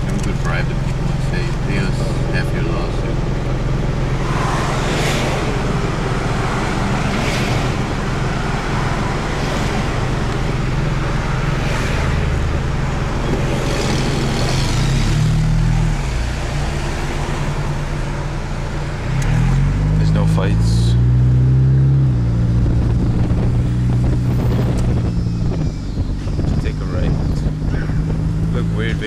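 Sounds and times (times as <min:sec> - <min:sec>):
car engine running: 0:00.0 - 0:29.0
road noise: 0:00.0 - 0:29.0
traffic passing: 0:00.0 - 0:29.0.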